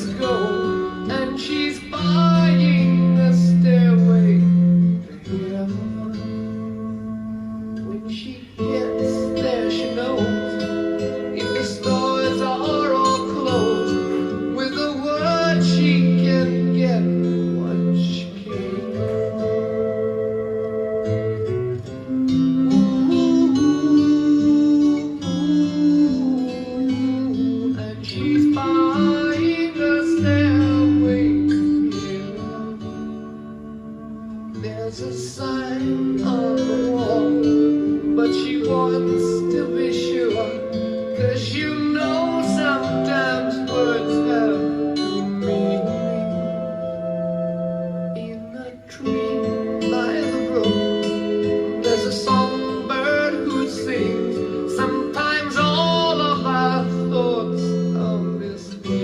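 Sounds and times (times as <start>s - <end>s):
song with acoustic guitar and singing: 0.0s - 59.0s.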